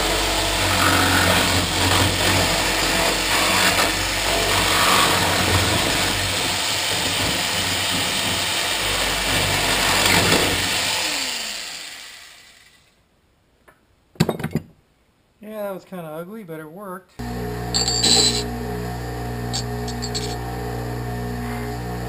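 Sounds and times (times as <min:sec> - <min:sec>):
jigsaw cutting metal mesh: 0:00.0 - 0:12.9, 0:17.2 - 0:22.0
saw motor winding down: 0:00.0 - 0:12.9, 0:17.2 - 0:22.0.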